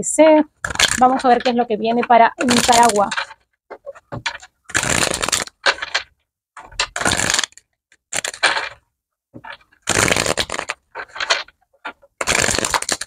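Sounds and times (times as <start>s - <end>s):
cards being shuffled by hand: 0.6s - 6.0s, 6.6s - 8.8s, 9.5s - 13.0s.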